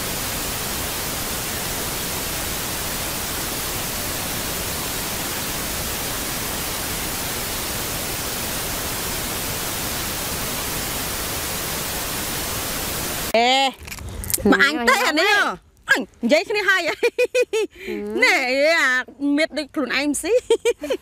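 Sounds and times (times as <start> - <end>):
steady static hiss: 0.0 - 21.0.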